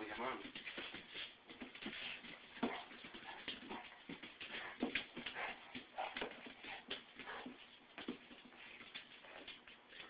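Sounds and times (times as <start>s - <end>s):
dogs scuffling and playing: 0.0s - 10.0s.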